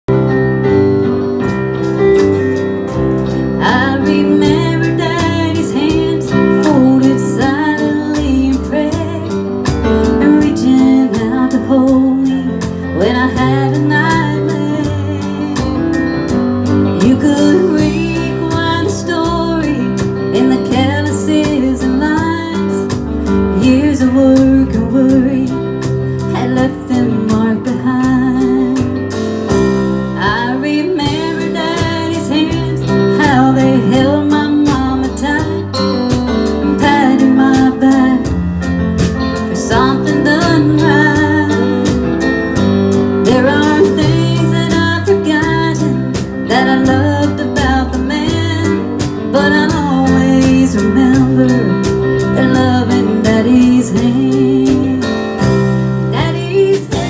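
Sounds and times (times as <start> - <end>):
country band playing live: 0.0 - 57.0.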